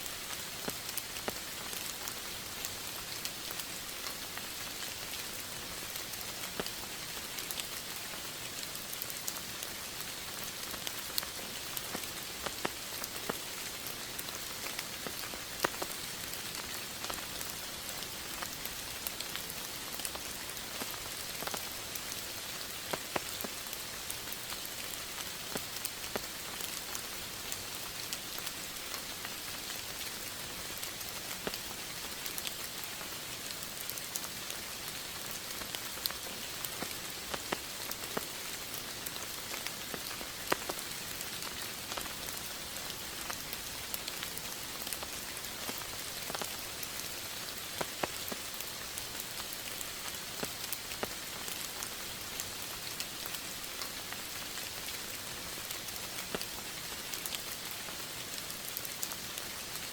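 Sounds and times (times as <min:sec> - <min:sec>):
steady rain hiss: 0:00.0 - 0:59.9
raindrops ticking: 0:06.0 - 0:59.9.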